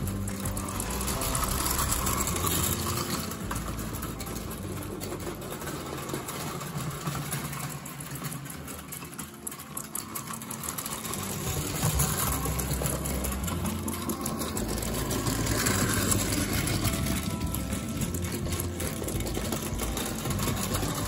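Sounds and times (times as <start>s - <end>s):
model train clattering on track: 0.0s - 21.0s.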